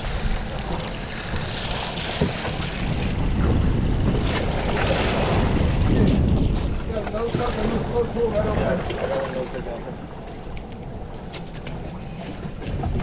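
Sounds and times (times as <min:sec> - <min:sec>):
water washing along a hull: 0:00.0 - 0:13.0
wind buffeting the microphone: 0:00.0 - 0:13.0.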